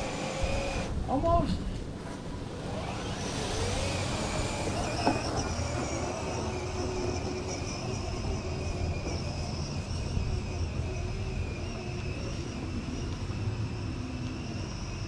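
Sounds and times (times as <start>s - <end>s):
toy car electric motors whining: 0.0s - 1.0s, 2.4s - 15.0s.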